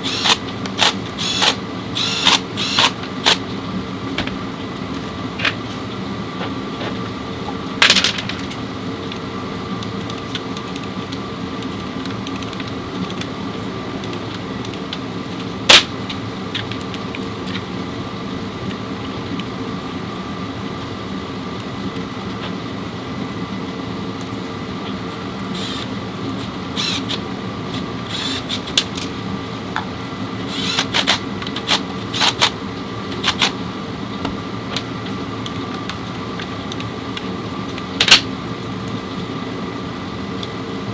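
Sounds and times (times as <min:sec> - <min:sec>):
steady mechanical hum: 0:00.0 - 0:40.9.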